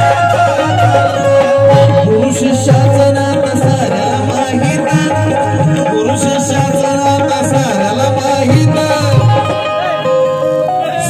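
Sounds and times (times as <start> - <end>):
hand drums beating: 0.0 - 10.2
held melodic accompaniment: 0.0 - 11.0
man singing into microphone: 0.0 - 11.0.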